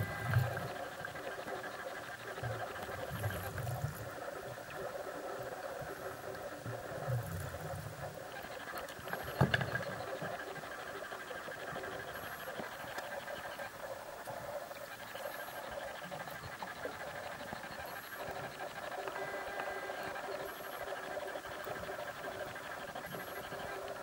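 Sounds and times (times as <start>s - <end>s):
muffled underwater hum: 0.0s - 24.0s.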